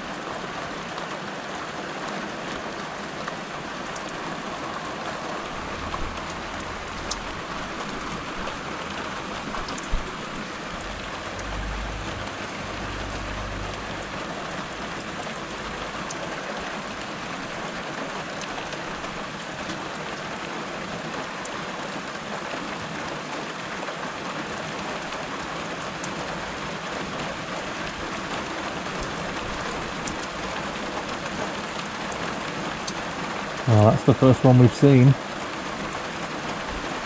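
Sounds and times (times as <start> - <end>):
raindrops ticking close by: 0.0 - 37.0
steady rain falling: 0.0 - 37.0.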